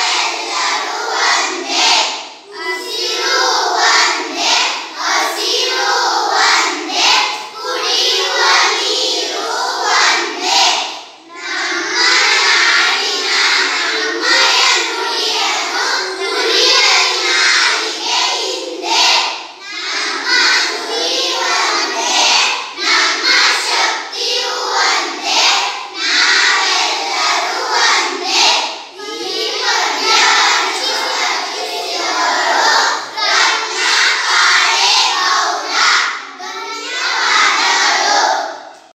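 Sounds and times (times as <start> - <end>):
children singing in unison: 0.0 - 38.9.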